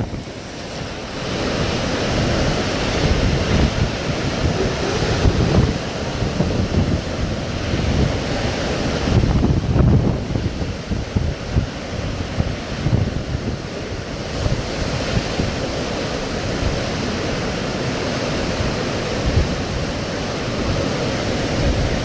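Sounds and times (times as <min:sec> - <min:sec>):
strong wind gusts buffeting microphone: 0:00.0 - 0:22.0.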